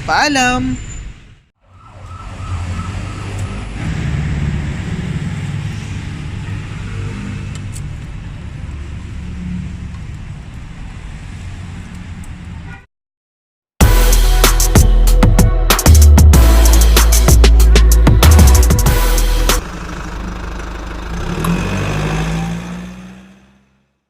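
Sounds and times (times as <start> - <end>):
vehicle engine rumble: 0.8 - 12.7, 16.4 - 24.0.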